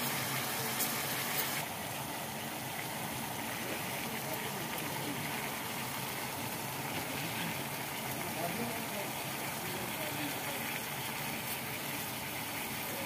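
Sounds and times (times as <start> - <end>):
gas flame hissing: 0.0 - 13.0
liquid simmering: 0.0 - 13.0.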